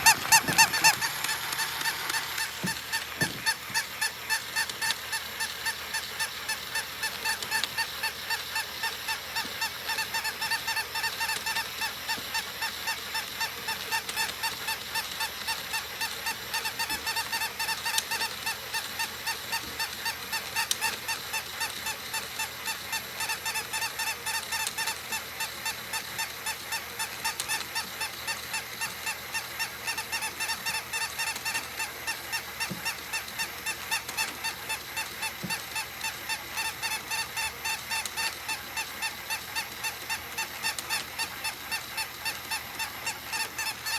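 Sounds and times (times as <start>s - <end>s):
electronic toy puppy yapping: 0.0s - 43.9s.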